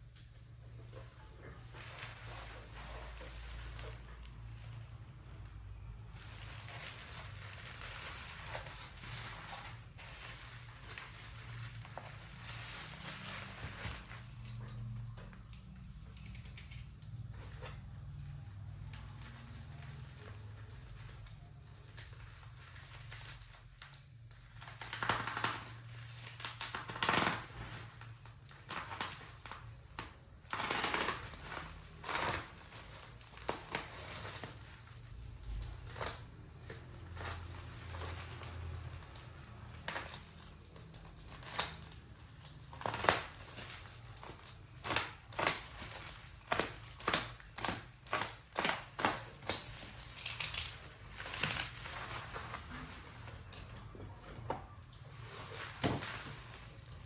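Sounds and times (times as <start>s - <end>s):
cardboard and wrapping crinkling: 0.0s - 57.0s.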